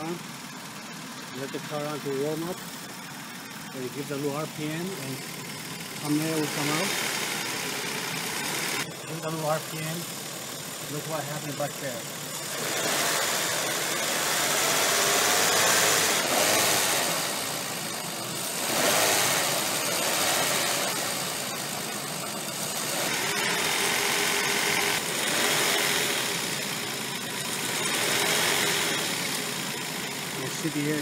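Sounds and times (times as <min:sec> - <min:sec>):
car engine running at low revs: 0:00.0 - 0:31.0.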